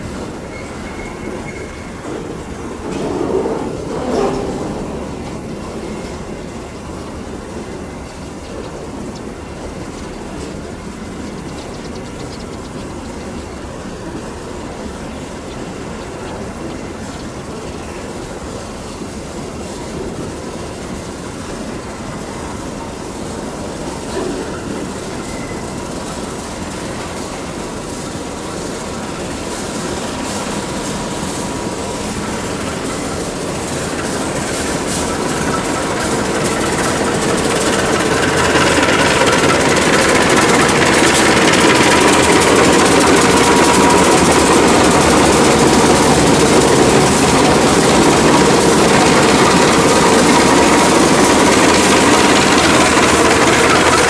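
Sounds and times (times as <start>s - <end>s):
diesel locomotive engine running: 0.0s - 54.0s
steady high whine: 0.0s - 54.0s.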